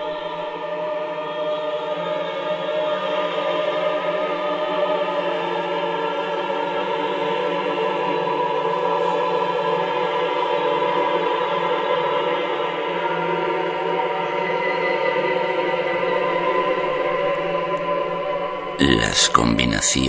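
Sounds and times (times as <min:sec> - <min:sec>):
choir holding long chords: 0:00.0 - 0:20.0.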